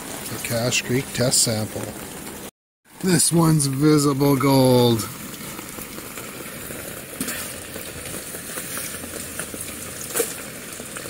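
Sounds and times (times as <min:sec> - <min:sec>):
rain pattering on plastic: 0:00.0 - 0:11.0.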